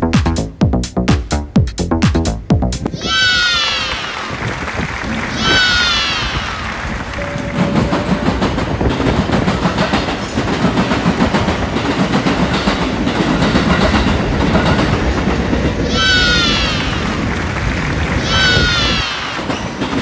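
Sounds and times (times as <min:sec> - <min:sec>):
train rumbling on track: 0:02.8 - 0:20.0.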